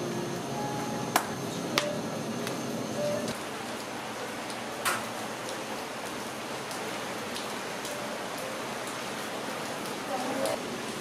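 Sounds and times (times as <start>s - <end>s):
shop background hiss: 0.0s - 11.0s.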